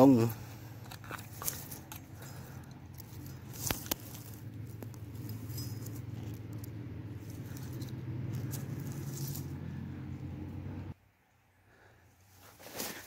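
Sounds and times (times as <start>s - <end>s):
dry grass and leaves rustling: 0.0s - 10.9s, 12.2s - 13.0s
steady low hum: 0.0s - 11.1s.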